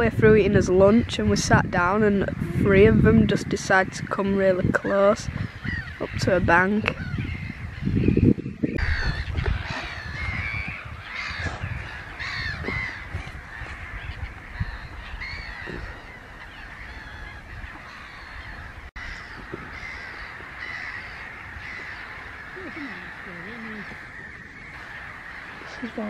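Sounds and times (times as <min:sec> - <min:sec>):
waterbirds honking: 0:00.0 - 0:26.0.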